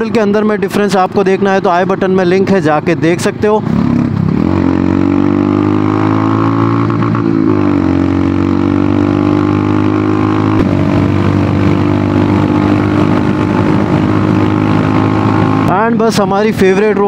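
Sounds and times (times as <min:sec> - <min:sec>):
motorcycle engine cruising: 0:00.9 - 0:17.0.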